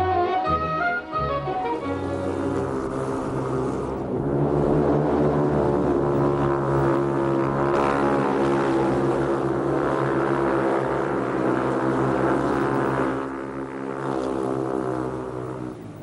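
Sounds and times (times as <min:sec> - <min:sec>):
motorcycle engines racing: 0:00.0 - 0:16.0.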